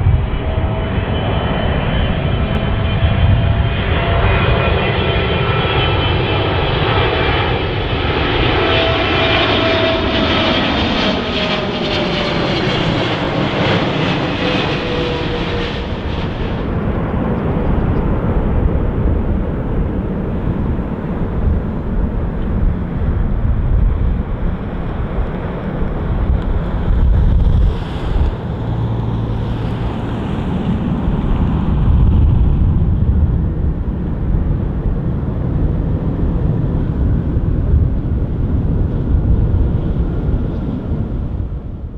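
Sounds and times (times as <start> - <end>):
jet engines rumbling: 0.0 - 41.9
wind noise on microphone: 0.0 - 41.9.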